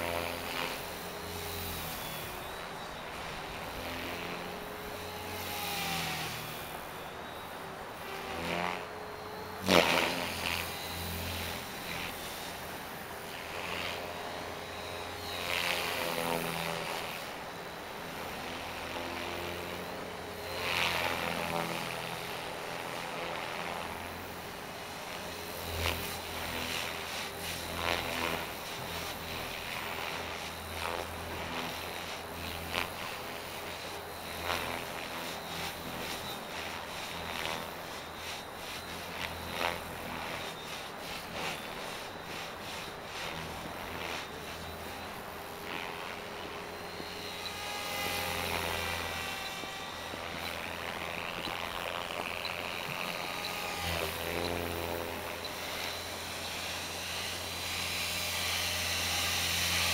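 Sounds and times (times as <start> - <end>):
electric motor whine: 0.0 - 59.9
helicopter rotor blades whooshing: 0.0 - 59.9.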